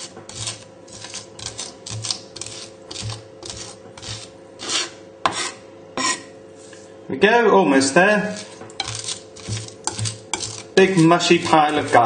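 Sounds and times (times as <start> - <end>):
knife scraping on wooden board: 0.0 - 6.3, 8.2 - 12.0.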